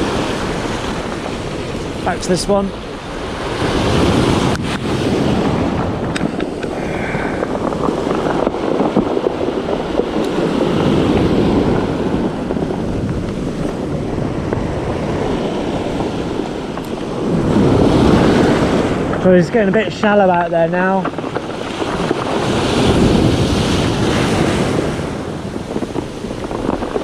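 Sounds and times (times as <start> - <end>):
surf on pebble beach: 0.0 - 27.0
wind on microphone: 0.0 - 27.0.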